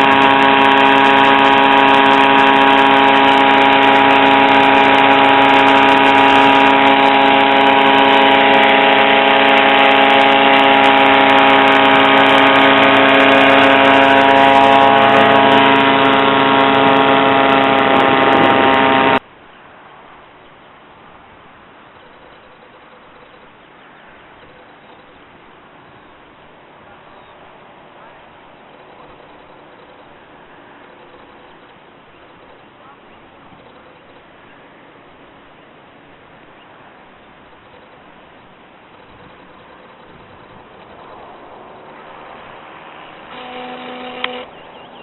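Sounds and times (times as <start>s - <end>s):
ultralight aircraft engine buzzing: 0.0s - 19.2s, 21.9s - 45.0s.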